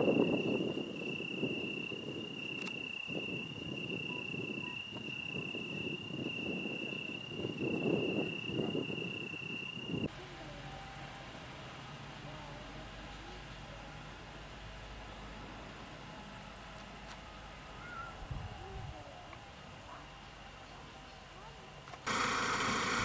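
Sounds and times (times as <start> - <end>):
cricket trilling: 0.0 - 21.9.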